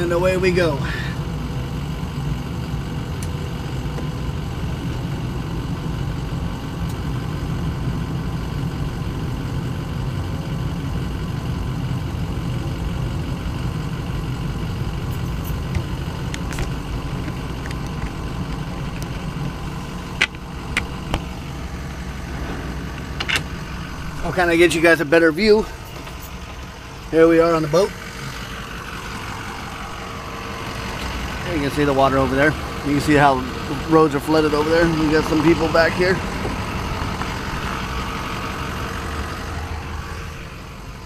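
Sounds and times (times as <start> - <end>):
diesel engine drone: 0.0 - 41.0.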